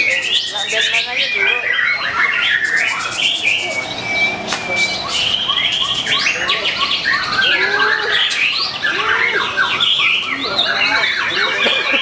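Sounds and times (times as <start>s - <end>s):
birds singing whistled trills: 0.0s - 12.0s.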